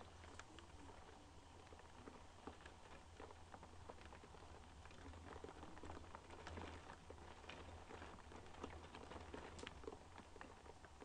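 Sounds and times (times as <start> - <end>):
rain pattering on a window: 0.0 - 11.0.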